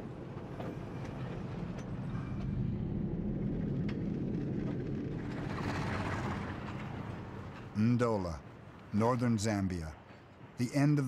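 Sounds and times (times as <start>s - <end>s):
train wagons rumbling on rails: 0.0s - 11.0s.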